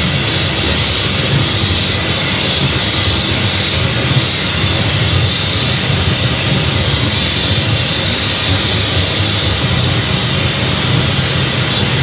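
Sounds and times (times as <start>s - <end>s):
electronic noise music: 0.0s - 12.0s.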